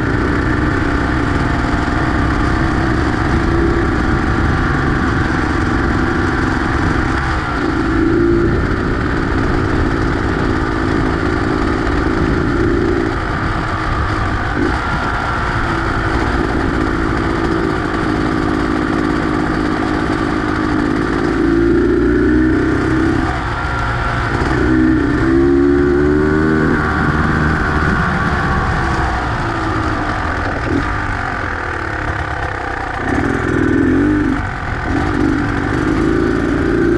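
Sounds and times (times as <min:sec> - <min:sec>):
two-stroke engine revving: 0:00.0 - 0:36.9.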